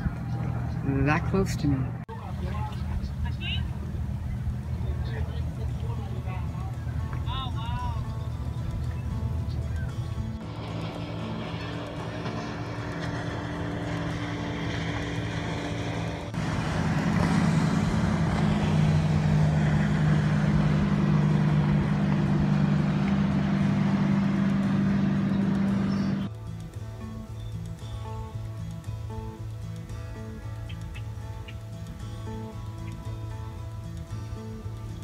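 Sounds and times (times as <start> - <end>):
motorboat engine humming: 0.0 - 35.0.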